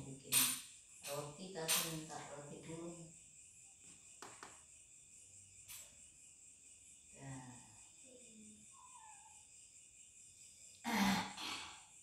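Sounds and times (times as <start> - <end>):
faint high-pitched hum: 0.0 - 10.9.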